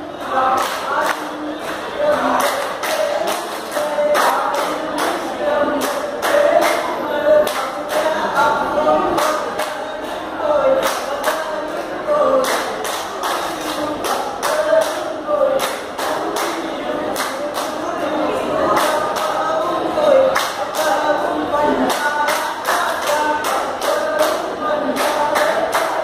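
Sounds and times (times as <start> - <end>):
lead voice singing: 0.0 - 26.0
men singing in unison: 0.0 - 26.0
rhythmic hand-clapping: 0.0 - 26.0.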